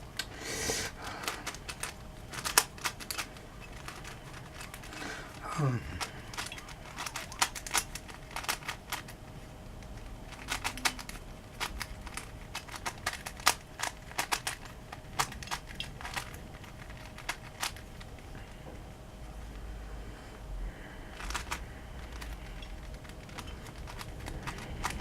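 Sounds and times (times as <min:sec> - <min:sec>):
plastic puzzle clicks: 0:00.9 - 0:09.2, 0:09.8 - 0:18.2, 0:21.1 - 0:25.0.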